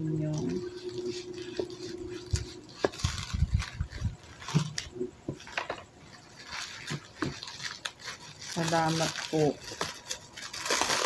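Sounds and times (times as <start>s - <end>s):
plastic wrap crackling: 0.0s - 11.0s.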